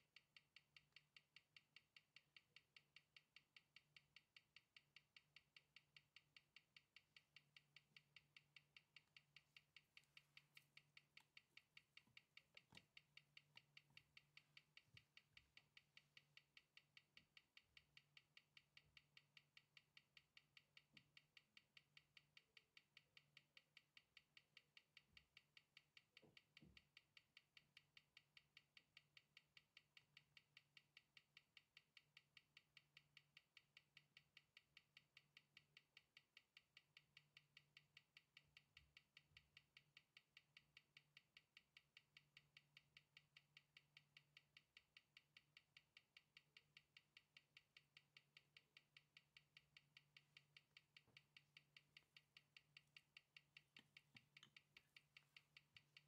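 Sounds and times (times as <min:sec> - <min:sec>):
watch ticking: 0:00.0 - 0:56.0.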